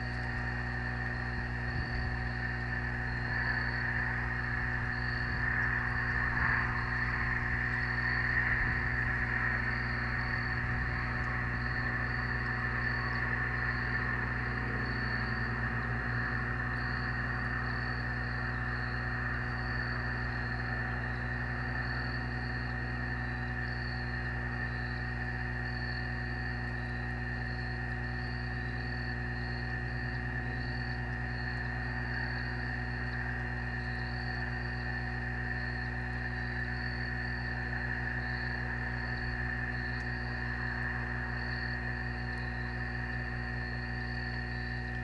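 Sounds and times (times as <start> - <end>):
constant hiss: 0.0 - 45.0
crickets chirping: 0.0 - 45.0
low hum: 0.0 - 45.0.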